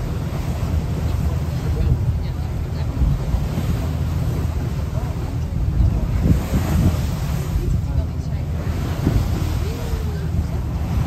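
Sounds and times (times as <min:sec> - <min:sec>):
sea water rushing past hull: 0:00.0 - 0:11.0
wind buffeting microphone: 0:00.0 - 0:11.0.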